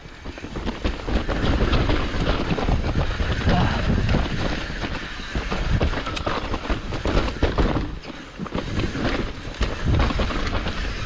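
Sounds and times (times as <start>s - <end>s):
bike knocks and rattles: 0.0s - 11.0s
bike tyres rolling over dirt: 0.0s - 11.0s.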